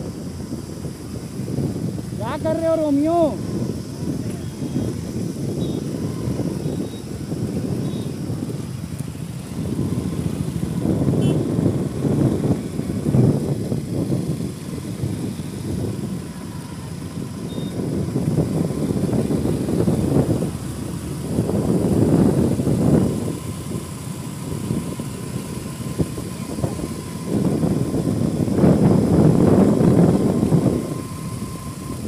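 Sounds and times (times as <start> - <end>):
motorcycle engine running: 0.0 - 32.0
wind rumble on microphone: 0.0 - 32.0.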